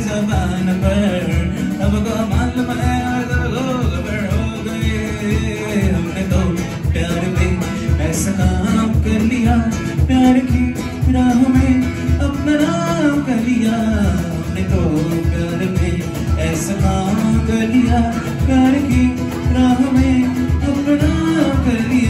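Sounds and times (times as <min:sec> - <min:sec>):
acoustic guitar strumming: 0:00.0 - 0:22.0
cajon beat: 0:00.0 - 0:22.0
person singing amplified: 0:00.0 - 0:22.0.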